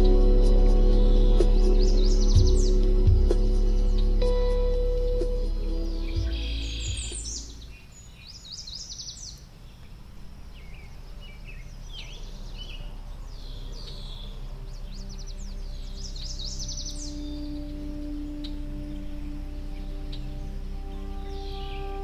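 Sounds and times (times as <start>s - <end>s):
ambient music drone: 0.0s - 8.0s, 10.2s - 22.0s
songbirds chirping: 0.0s - 22.0s.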